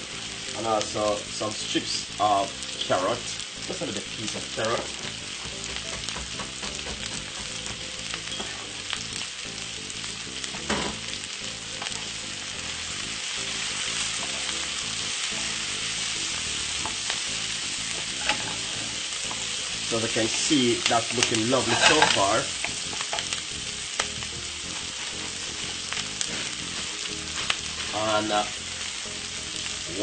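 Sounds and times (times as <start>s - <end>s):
vegetables sizzling in a frying pan: 0.0s - 30.0s.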